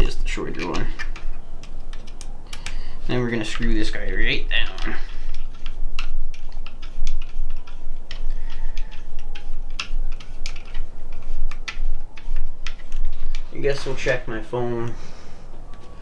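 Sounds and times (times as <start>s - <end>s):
plastic and metal parts clicking: 0.3s - 2.8s, 3.5s - 13.8s.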